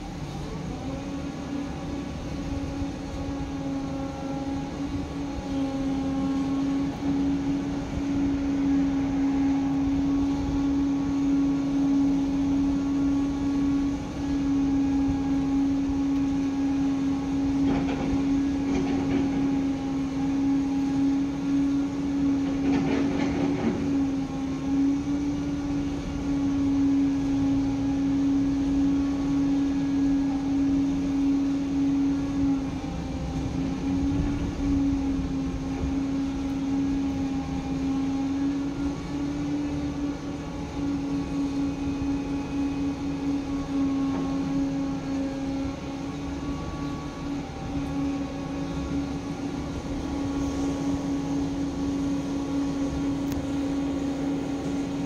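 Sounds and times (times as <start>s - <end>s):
excavator working: 0.0s - 55.0s.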